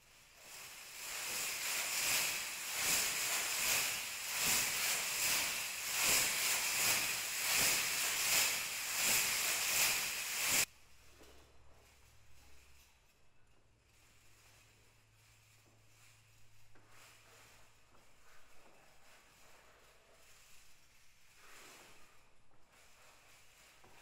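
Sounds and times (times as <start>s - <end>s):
metallic fringe and beads shaking: 0.0s - 11.0s, 13.8s - 24.0s.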